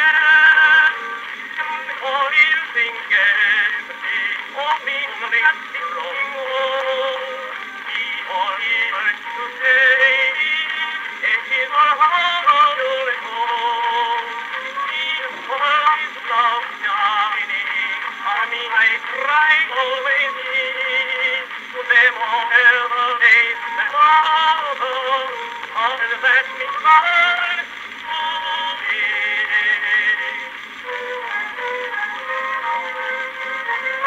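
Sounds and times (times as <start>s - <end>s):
tinny phonograph song with vibrato: 0.0s - 34.0s.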